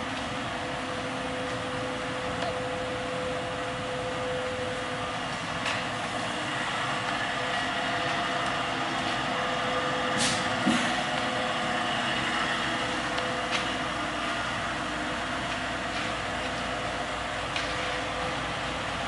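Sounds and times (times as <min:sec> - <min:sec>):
furnace blowers humming and hissing: 0:00.0 - 0:19.0.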